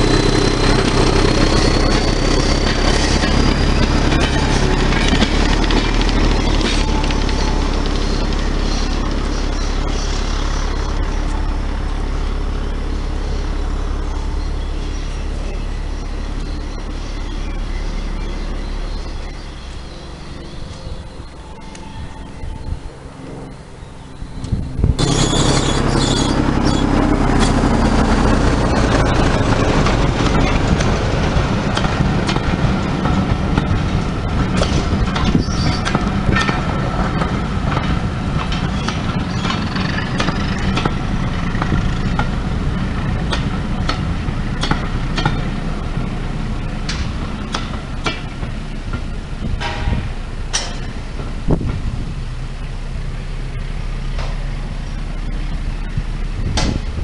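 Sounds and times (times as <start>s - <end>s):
wheels clicking over rail joints: 0.0s - 17.0s, 24.4s - 57.0s
passenger train rumbling past: 0.0s - 57.0s.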